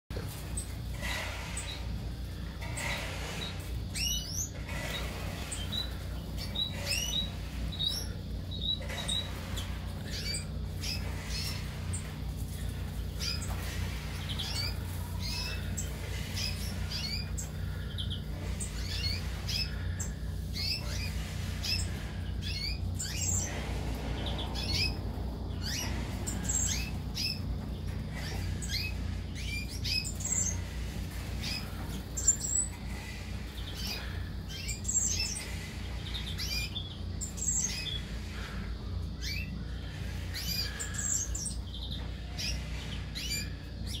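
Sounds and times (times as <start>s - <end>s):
birds chirping and tweeting: 0.1s - 44.0s
steady low hum: 0.1s - 44.0s.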